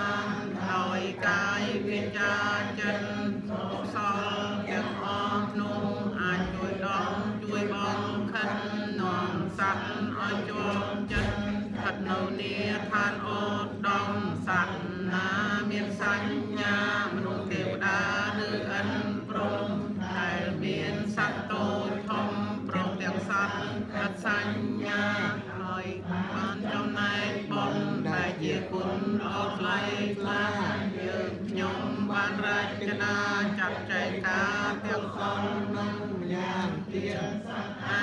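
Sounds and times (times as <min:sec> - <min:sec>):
congregation chanting prayers: 0:00.0 - 0:38.0.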